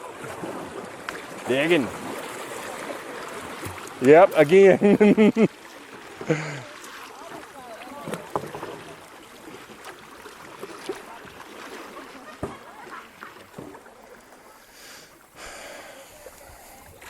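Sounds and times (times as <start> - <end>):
creek water flowing: 0.0 - 17.0
paddle splashes: 0.0 - 17.0.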